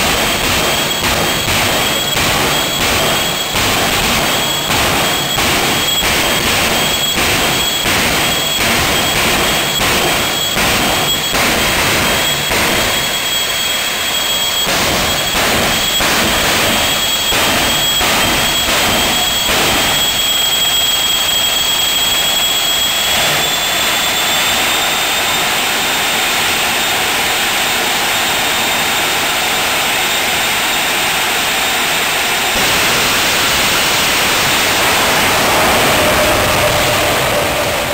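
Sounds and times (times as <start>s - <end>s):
jet engine roaring and whining: 0.0s - 37.9s.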